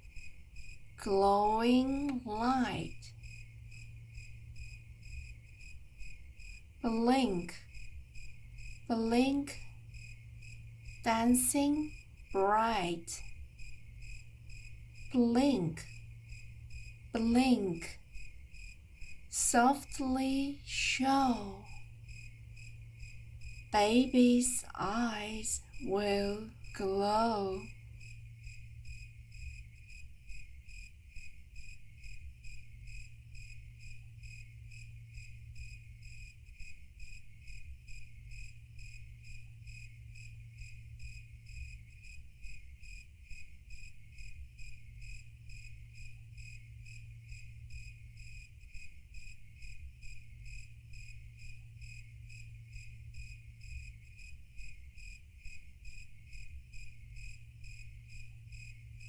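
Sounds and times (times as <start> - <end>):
crickets chirping: 0.0 - 59.0
low steady hum: 0.0 - 59.0.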